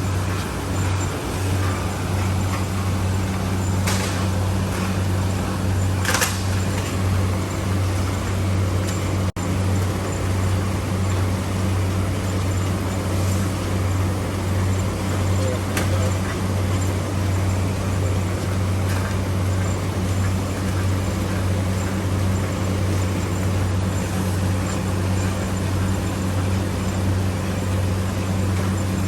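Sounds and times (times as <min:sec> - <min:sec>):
machine hum and whir: 0:00.0 - 0:29.0.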